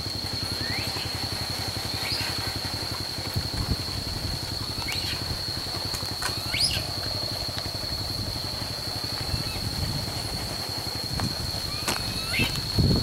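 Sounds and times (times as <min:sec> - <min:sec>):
high-pitched whine: 0:00.0 - 0:13.0
low engine-like rumble: 0:00.0 - 0:13.0.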